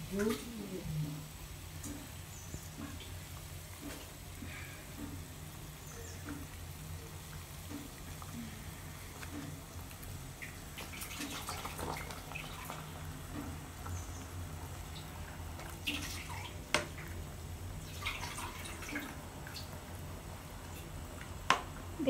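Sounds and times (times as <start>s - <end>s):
low steady hum: 0.0s - 22.0s
water boiling and bubbling in a pot: 0.0s - 22.0s.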